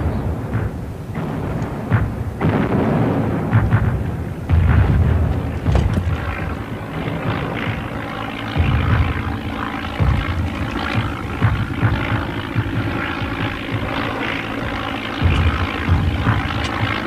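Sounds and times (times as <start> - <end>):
shellfire booms: 0.0 - 17.0.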